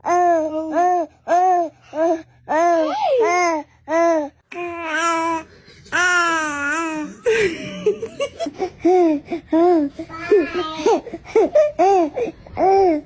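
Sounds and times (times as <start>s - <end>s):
baby babbling: 0.0s - 7.2s, 8.9s - 13.0s.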